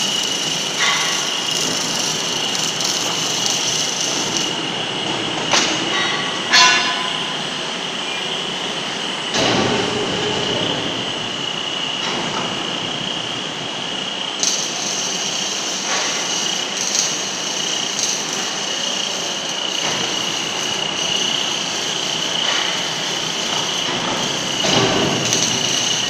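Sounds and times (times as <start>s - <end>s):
motors and gearboxes whining: 0.0s - 6.5s, 7.2s - 26.0s.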